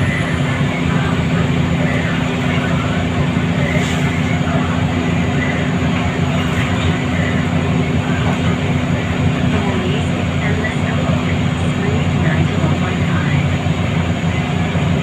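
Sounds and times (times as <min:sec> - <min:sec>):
bus diesel engine running: 0:00.0 - 0:15.0
road and tyre noise: 0:00.0 - 0:15.0.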